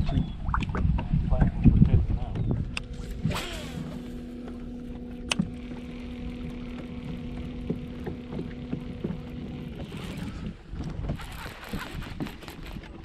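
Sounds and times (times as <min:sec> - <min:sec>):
trolling motor humming: 0:00.0 - 0:13.0.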